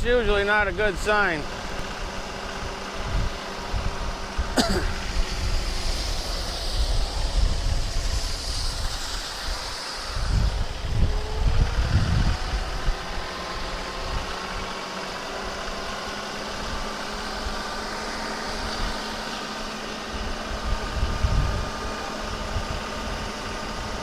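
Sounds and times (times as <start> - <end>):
diesel tractor engine running: 0.0 - 24.0
wind buffeting microphone: 0.0 - 24.0.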